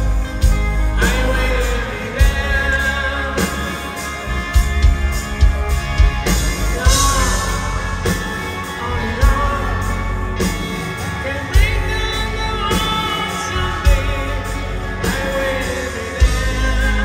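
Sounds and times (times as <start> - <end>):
man singing lead vocal: 0.0 - 5.5, 6.2 - 17.0
live rock band playing: 0.0 - 17.0.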